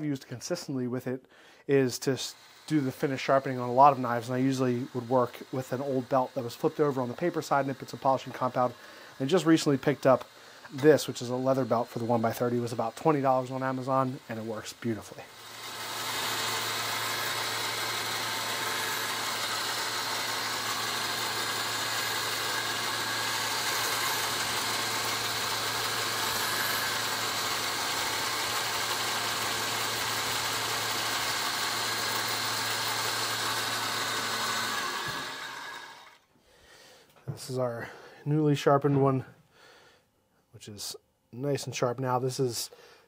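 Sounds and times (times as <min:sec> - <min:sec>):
belt grinder running: 0:01.7 - 0:36.3.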